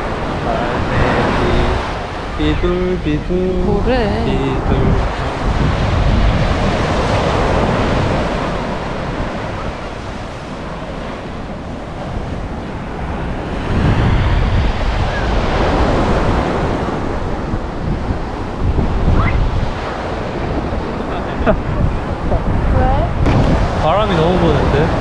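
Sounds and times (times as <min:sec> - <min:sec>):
ocean surf on a beach: 0:00.0 - 0:25.0
wind buffeting the microphone: 0:00.0 - 0:25.0.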